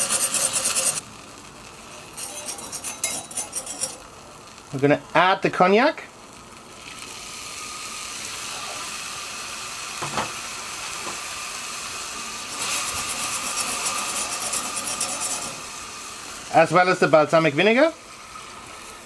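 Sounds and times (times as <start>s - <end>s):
liquid sizzling in hot pot: 0.0s - 19.0s.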